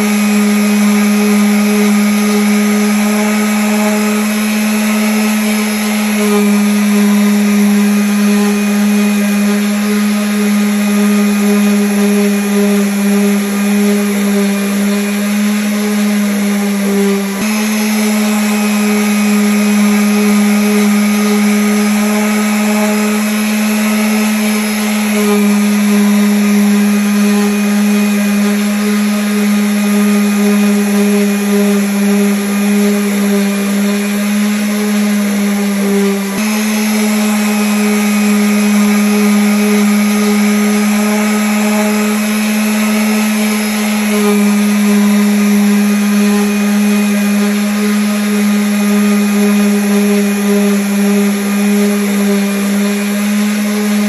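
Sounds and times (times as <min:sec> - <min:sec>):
electric sander on wood: 0:00.0 - 0:54.0.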